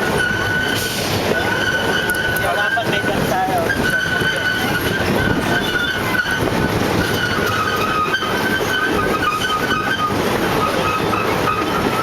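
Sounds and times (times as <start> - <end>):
high squeal of ride train: 0.0 - 12.0
wheels rumbling on rails: 0.0 - 12.0.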